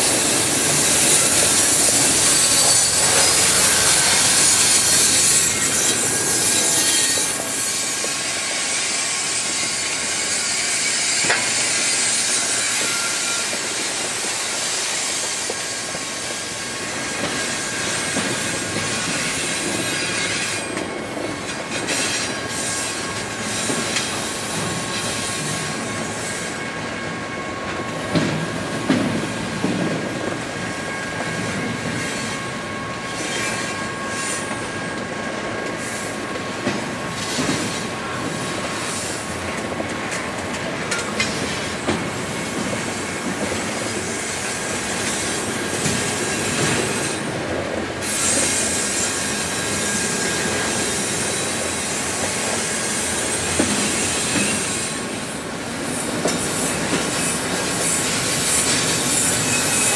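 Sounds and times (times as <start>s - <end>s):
train wheel squeal: 0.0s - 59.9s.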